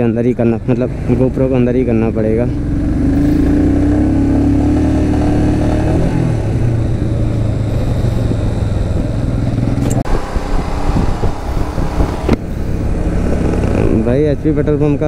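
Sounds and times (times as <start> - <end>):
motorcycle engine running: 0.0 - 15.0
road and wind rush: 0.0 - 15.0.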